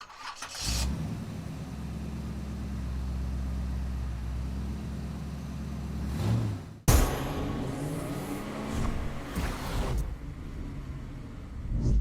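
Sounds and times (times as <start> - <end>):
vehicle engine humming: 1.0 - 12.0.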